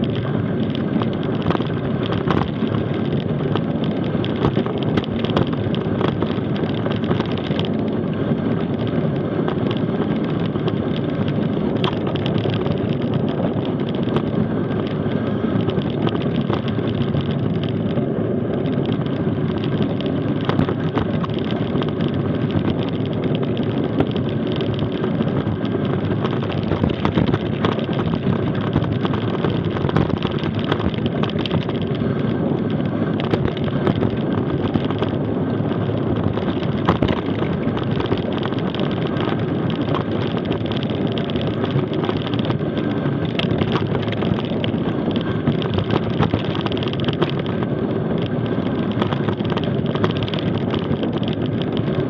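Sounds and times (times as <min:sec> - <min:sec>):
bike rattling clicks and knocks: 0:00.0 - 0:52.0
bike tyres rumbling on gravel: 0:00.0 - 0:52.0
wind on microphone: 0:00.0 - 0:52.0.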